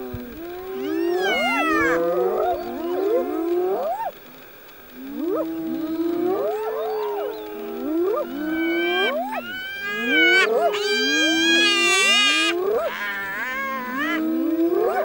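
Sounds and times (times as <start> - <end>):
hyenas whooping and squealing: 0.3 - 15.0.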